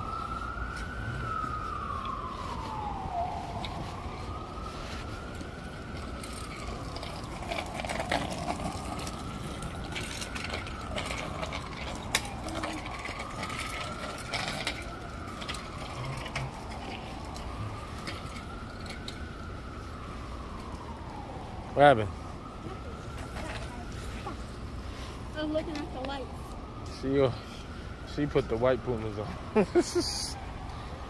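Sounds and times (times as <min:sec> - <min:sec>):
emergency vehicle siren wailing: 0:00.0 - 0:31.0
street traffic hum: 0:00.0 - 0:31.0.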